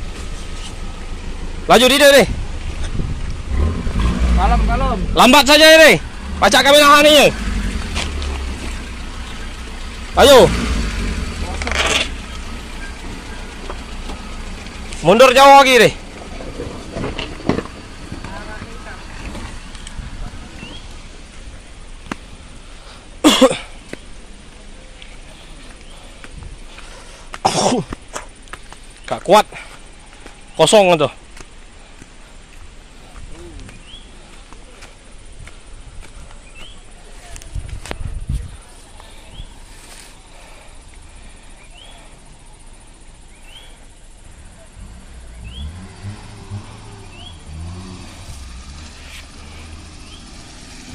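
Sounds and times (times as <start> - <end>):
background hiss: 0.0 - 50.9
low vehicle engine rumble: 0.0 - 50.9
outdoor background noise: 0.0 - 50.9.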